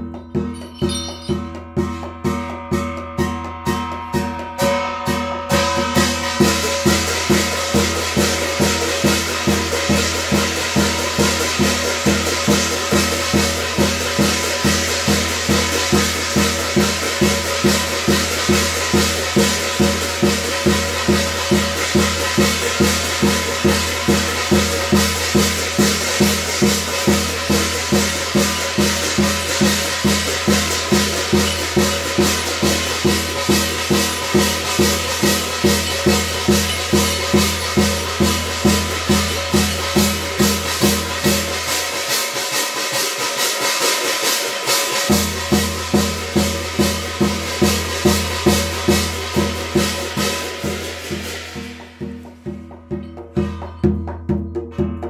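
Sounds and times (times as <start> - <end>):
percussion beating steady rhythm: 0.0 - 55.0.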